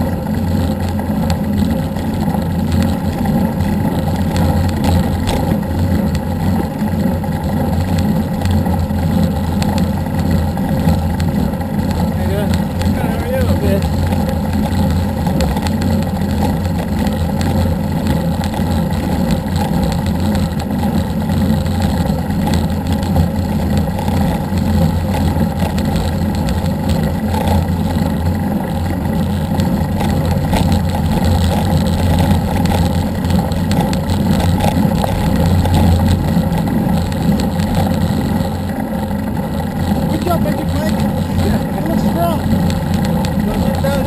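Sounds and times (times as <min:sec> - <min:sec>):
vehicle engine and road noise: 0:00.0 - 0:44.0.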